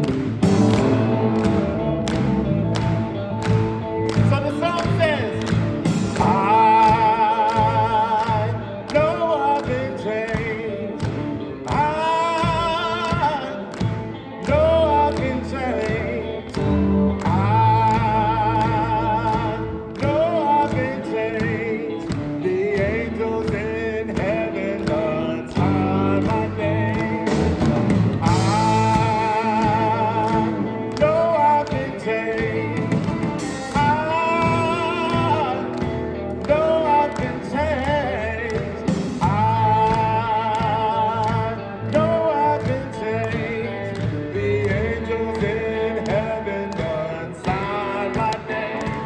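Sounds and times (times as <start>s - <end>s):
gospel band playing: 0.0s - 49.0s
person singing: 0.0s - 49.0s.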